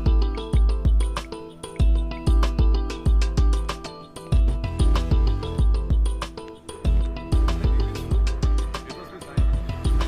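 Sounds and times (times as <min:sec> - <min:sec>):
music with strong low beat: 0:00.0 - 0:10.0.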